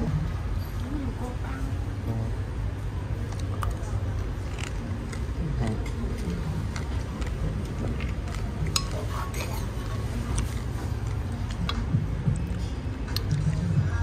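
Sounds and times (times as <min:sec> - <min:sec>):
faint indistinct voices: 0:00.0 - 0:14.0
steady low hum: 0:00.0 - 0:14.0.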